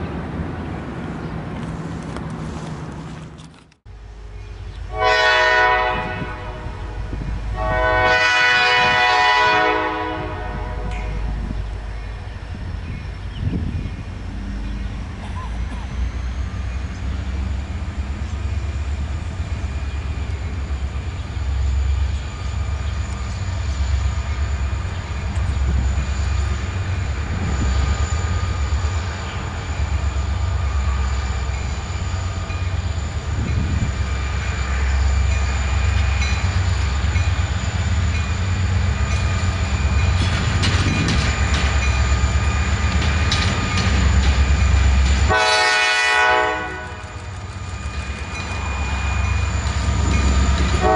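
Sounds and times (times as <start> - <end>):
diesel locomotives rumbling: 0.0 - 50.9.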